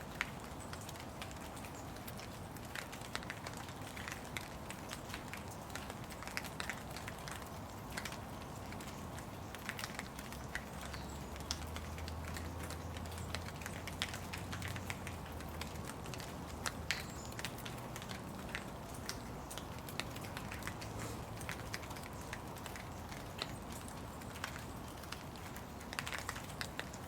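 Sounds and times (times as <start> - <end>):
rain falling: 0.0 - 27.0
raindrops tapping close by: 0.0 - 27.0.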